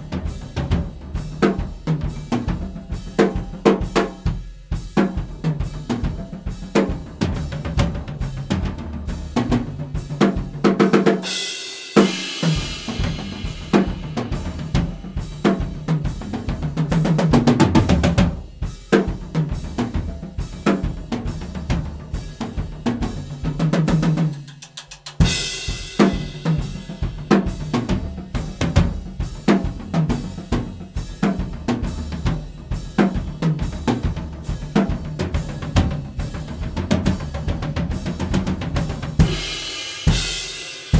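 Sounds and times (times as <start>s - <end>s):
drum kit groove: 0.0s - 40.9s.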